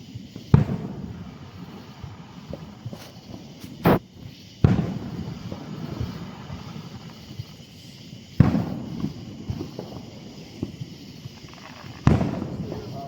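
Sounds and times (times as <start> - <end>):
fireworks bangs and booms: 0.0 - 13.0
small firework pops: 0.0 - 13.0.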